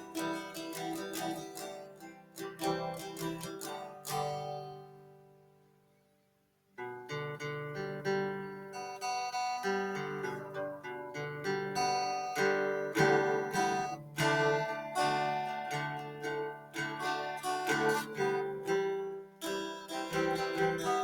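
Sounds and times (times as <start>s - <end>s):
acoustic guitar music: 0.0s - 5.7s, 6.8s - 21.0s.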